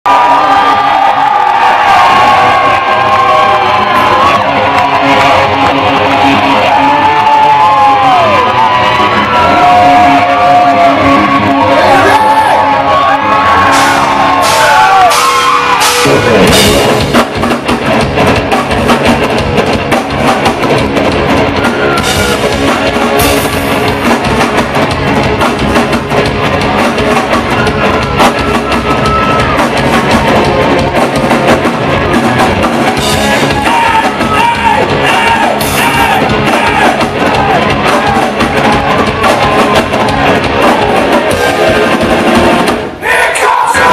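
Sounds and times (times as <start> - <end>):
rock band playing live: 0.1 - 43.9
electric guitar: 0.2 - 42.9.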